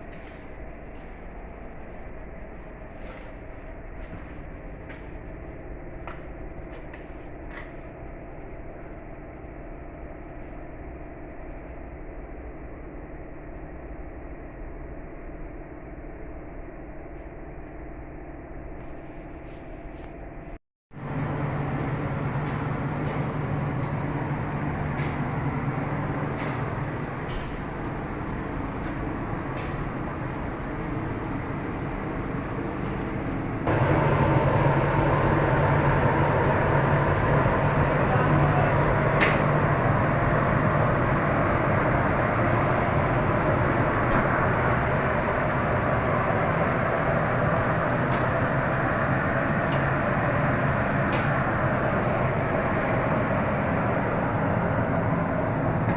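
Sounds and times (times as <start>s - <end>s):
machinery low hum: 0.0s - 55.9s.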